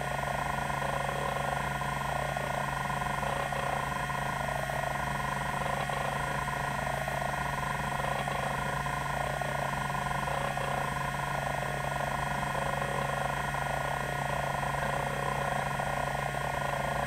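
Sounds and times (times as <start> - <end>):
hard drive spindle hum: 0.0 - 17.0.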